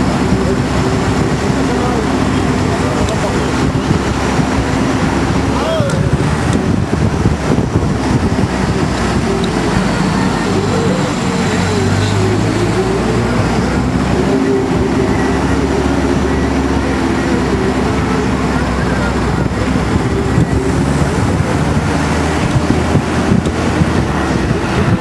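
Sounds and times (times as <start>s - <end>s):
vehicle engine from inside cabin: 0.0s - 25.0s.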